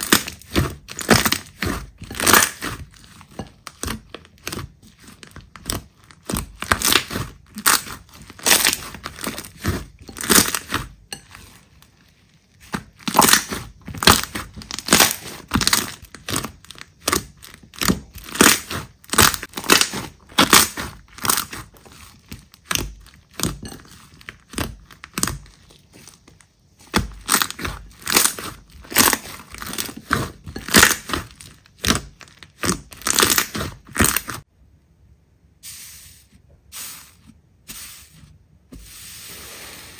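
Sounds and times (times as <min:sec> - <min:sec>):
slime crackling and popping: 0:00.0 - 0:10.9, 0:12.6 - 0:34.5.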